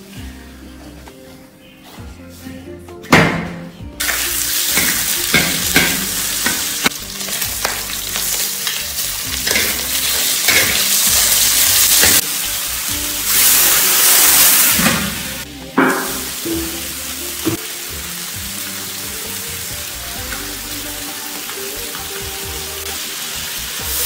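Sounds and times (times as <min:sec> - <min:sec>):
meat sizzling in a wok: 0:04.0 - 0:24.0.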